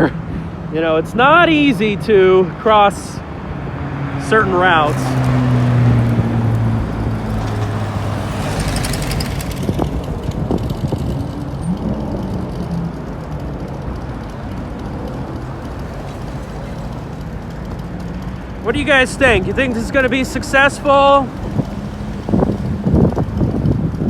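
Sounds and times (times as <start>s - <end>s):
cars passing: 0.0s - 24.0s
low engine hum: 3.2s - 24.0s.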